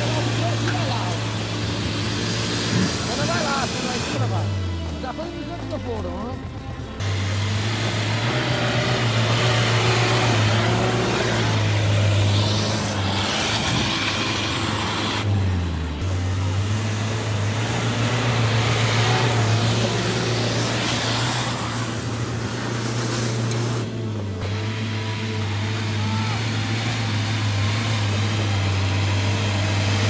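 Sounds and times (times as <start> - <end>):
car engine running at low revs: 0.0 - 30.0.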